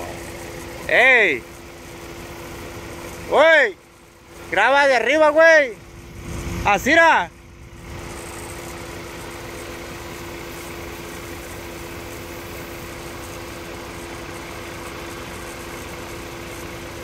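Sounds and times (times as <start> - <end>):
combine harvester engine hum: 0.0 - 17.0.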